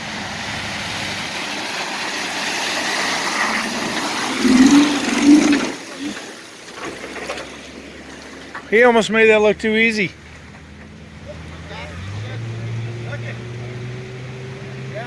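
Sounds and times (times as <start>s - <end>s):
vehicle splashing through water: 0.0s - 15.0s.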